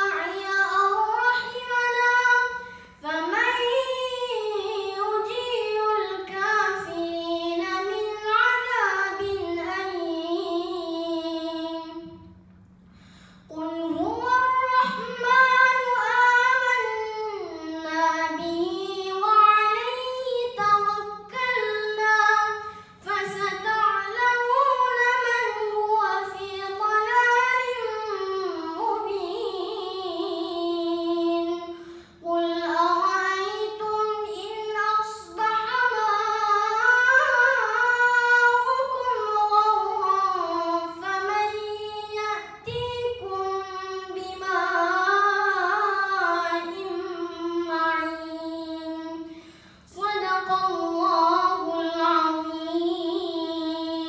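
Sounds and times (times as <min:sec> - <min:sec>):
boy reciting melodically: 0:00.0 - 0:12.4, 0:13.1 - 0:54.0.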